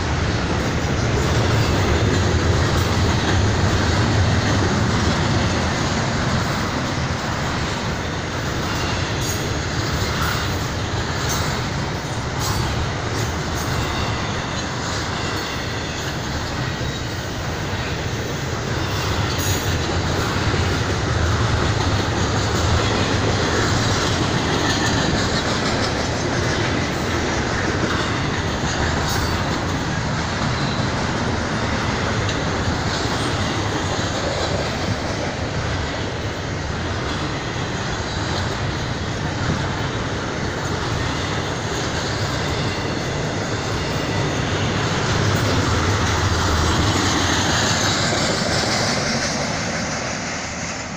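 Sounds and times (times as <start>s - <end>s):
freight train wheels on rails: 0.0s - 50.9s.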